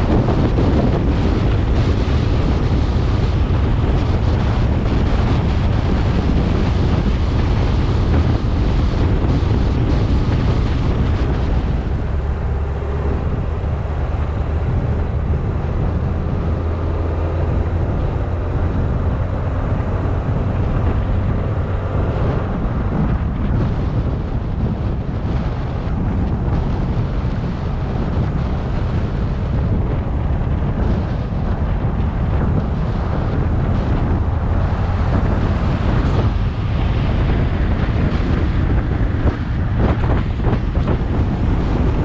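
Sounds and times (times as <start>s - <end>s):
car engine and tyres rumbling: 0.0s - 42.0s
wind buffeting microphone: 0.0s - 42.0s.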